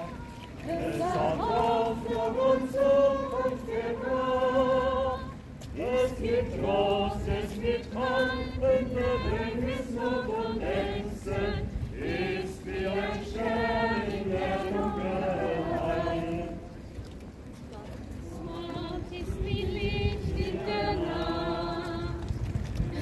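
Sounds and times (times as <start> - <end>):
group singing a hymn: 0.0 - 16.8, 18.2 - 22.3.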